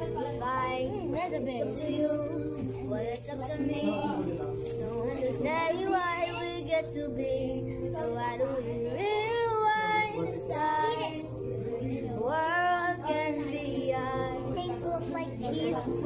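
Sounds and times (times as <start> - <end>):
background pop song: 0.0 - 16.0.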